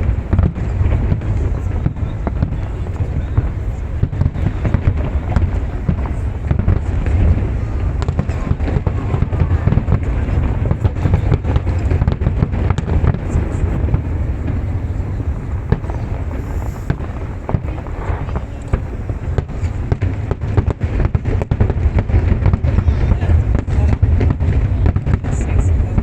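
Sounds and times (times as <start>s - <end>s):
deep rumble: 0.0s - 26.0s
fireworks bangs and crackles: 0.0s - 26.0s.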